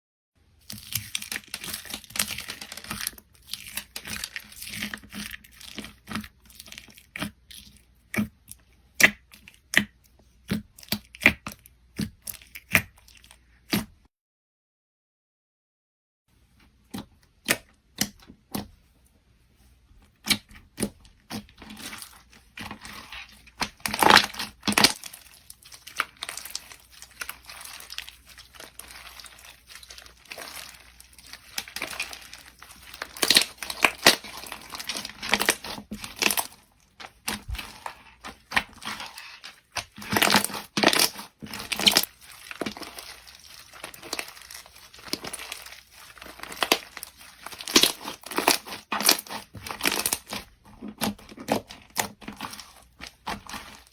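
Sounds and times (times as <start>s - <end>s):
slime crunching and crackling: 0.5s - 14.0s, 20.0s - 53.9s.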